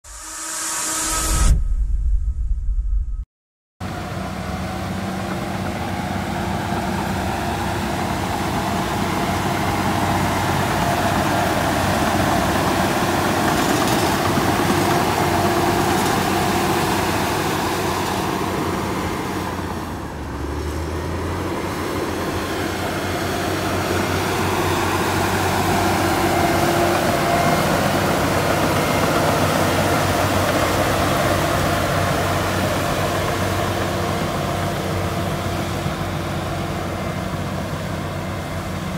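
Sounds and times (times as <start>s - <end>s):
bulldozer diesel engine running: 3.8s - 38.9s.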